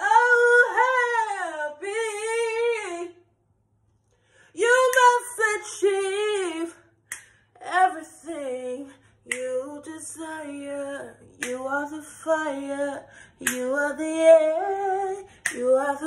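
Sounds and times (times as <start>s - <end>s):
woman singing a cappella: 0.0s - 3.3s, 4.4s - 16.0s.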